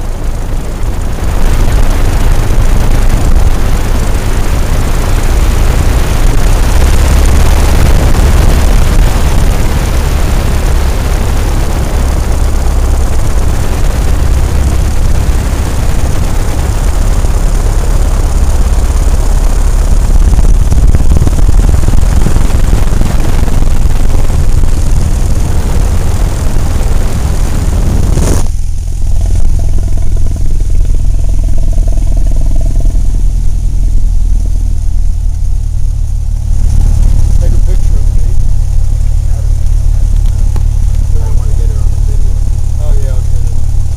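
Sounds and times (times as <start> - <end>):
aircraft engine droning: 0.0 - 43.9
airflow rushing: 0.0 - 43.9.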